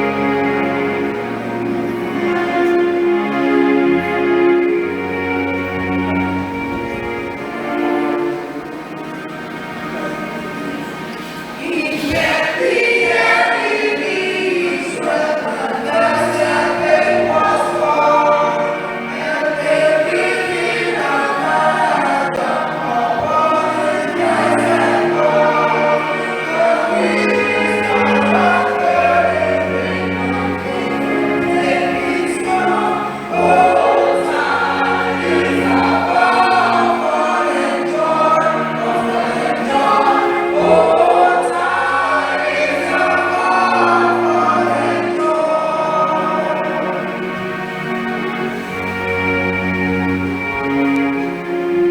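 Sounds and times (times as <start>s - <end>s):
church choir singing in harmony: 0.0s - 51.9s
musical accompaniment: 0.0s - 51.9s.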